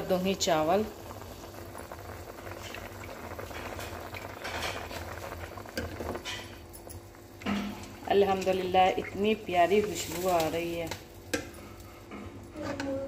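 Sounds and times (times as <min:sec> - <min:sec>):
water boiling hard in pot: 0:00.0 - 0:11.6.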